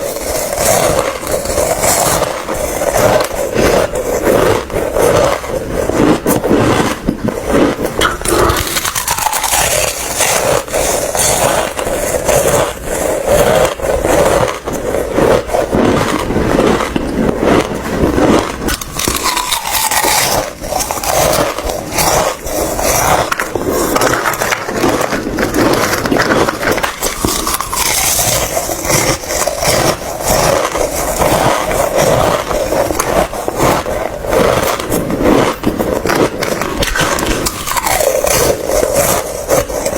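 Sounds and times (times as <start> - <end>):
ice being crunched by teeth: 0.0 - 39.9.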